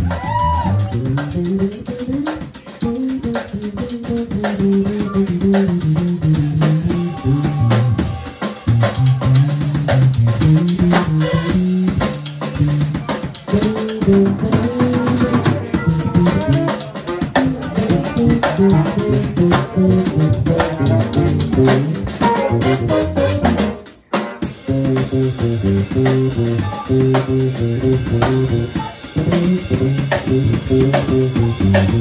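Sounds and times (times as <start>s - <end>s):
electric bass line: 0.0s - 23.8s, 24.5s - 32.0s
electric guitar: 0.0s - 23.8s, 24.5s - 32.0s
drum kit groove: 0.0s - 32.0s.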